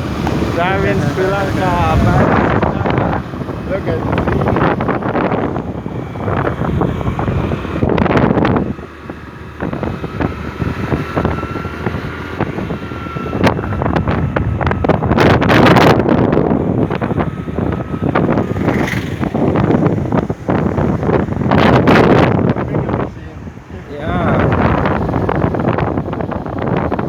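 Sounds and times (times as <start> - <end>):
road noise: 0.0 - 27.0
scooter engine: 0.0 - 27.0
wind buffeting microphone: 0.0 - 27.0.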